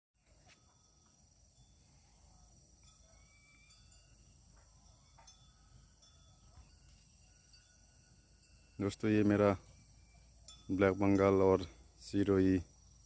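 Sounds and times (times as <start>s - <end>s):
high-pitched insect chirring: 0.2s - 13.0s.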